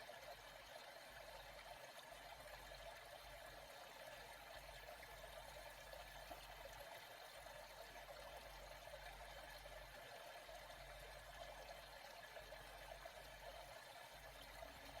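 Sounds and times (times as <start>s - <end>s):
faint trickle of water: 0.0s - 15.0s.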